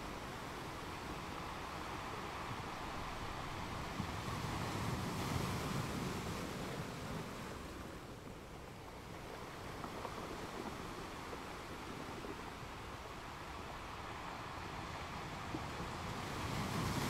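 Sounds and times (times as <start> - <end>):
surf washing onto beach: 0.0 - 17.0
wind on microphone: 0.0 - 17.0.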